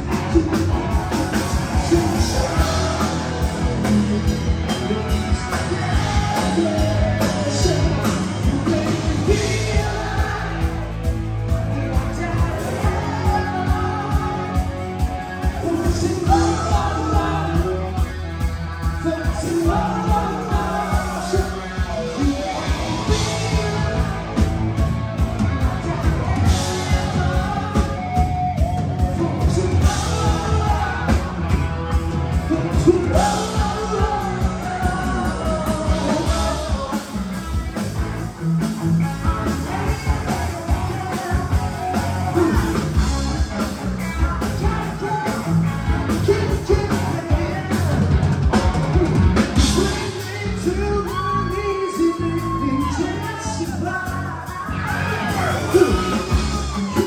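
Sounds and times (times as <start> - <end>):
person singing: 0.0 - 37.9, 39.1 - 48.2, 49.0 - 57.0
rock band playing live: 0.0 - 57.0.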